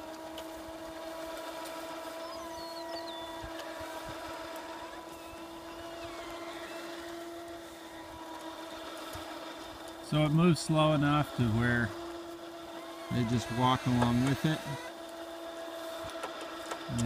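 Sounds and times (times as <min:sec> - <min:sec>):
winch mechanism humming: 0:00.0 - 0:17.0.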